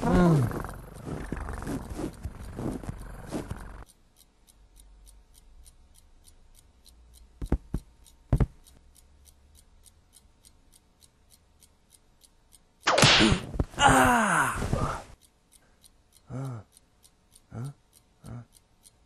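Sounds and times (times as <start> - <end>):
faint clock ticking: 0.0 - 19.0.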